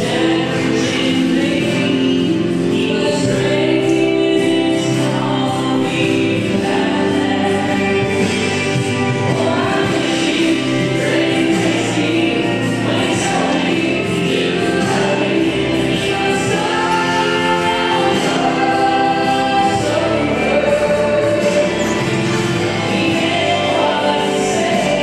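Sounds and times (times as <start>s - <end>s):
country waltz song with singing: 0.0s - 25.0s.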